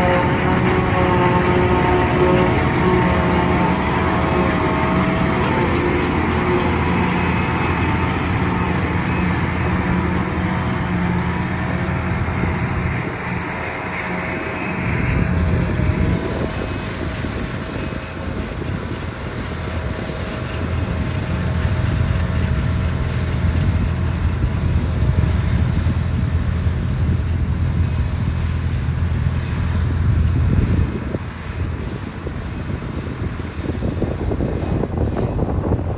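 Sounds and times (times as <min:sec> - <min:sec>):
forage harvester engine drone: 0:00.0 - 0:35.9.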